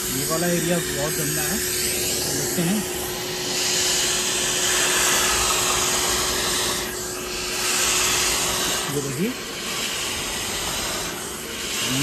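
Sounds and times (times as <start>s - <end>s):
nozzle suction hiss on fabric: 0.0s - 12.0s
vacuum cleaner motor whine: 0.0s - 12.0s.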